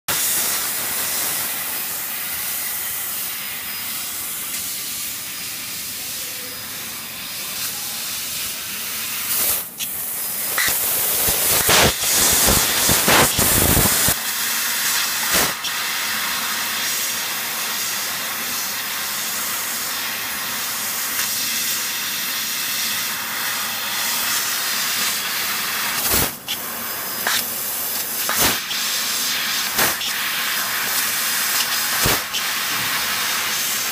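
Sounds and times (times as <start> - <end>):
laser cutter gas jet hissing: 0.1 - 33.9.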